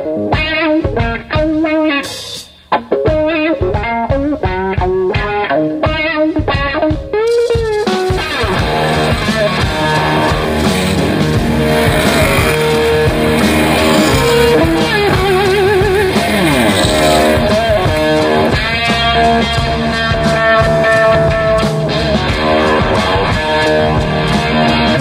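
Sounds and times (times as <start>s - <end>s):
rock music with electric guitar: 0.0s - 25.0s.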